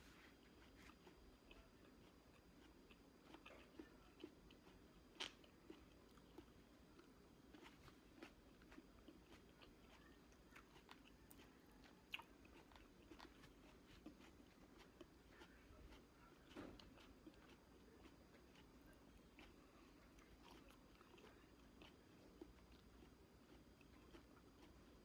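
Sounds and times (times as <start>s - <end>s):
chewing grapes: 0.1s - 25.0s.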